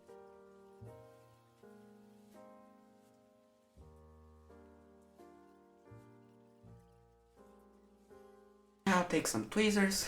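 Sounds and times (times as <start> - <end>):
soft keyboard chords: 0.0 - 9.8.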